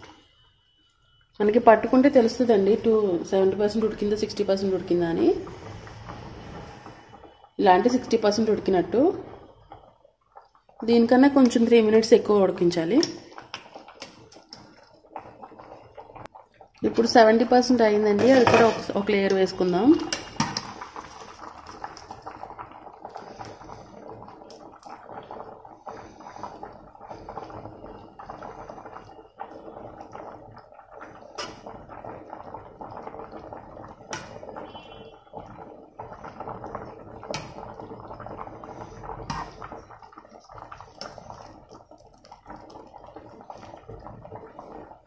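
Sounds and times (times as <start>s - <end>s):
water boiling and bubbling: 0.0s - 45.0s.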